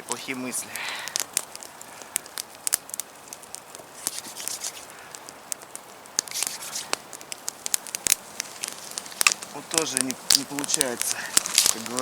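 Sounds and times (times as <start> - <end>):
campfire crackling: 0.0 - 12.0
faint hiss: 0.0 - 12.0.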